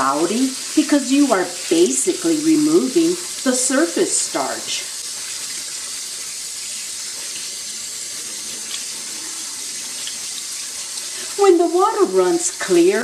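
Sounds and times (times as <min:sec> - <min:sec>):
tap water running into a strainer: 0:00.0 - 0:13.0.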